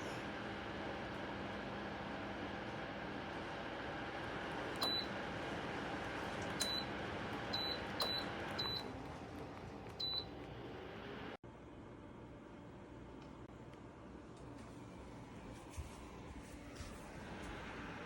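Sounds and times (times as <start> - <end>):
heater fan hum: 0.0 - 18.0.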